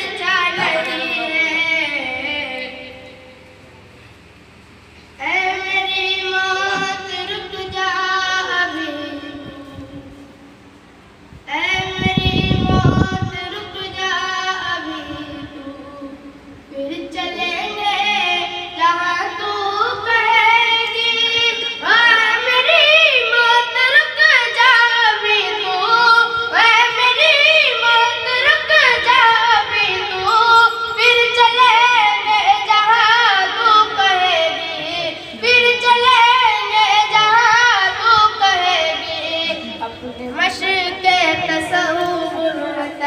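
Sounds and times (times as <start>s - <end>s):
child singing devotional song: 0.0s - 3.4s, 5.2s - 10.5s, 11.4s - 43.0s.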